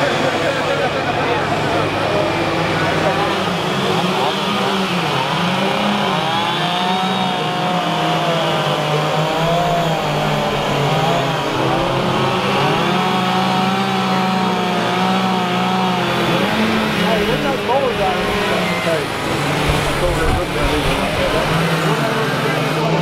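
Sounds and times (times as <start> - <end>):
chainsaws cutting wood: 0.0 - 23.0.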